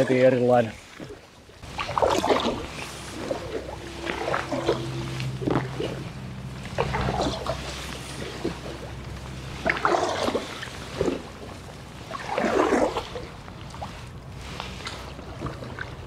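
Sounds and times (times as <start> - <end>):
paddle strokes splashing: 0.0 - 16.0
soft wash of water: 0.0 - 16.0.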